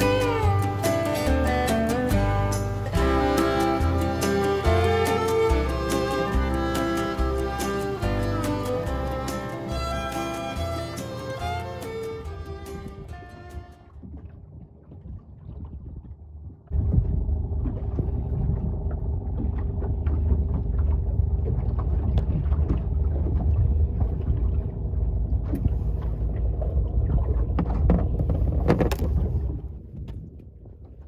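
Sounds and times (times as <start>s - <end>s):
boat engine idling: 0.0s - 14.1s, 16.8s - 29.5s.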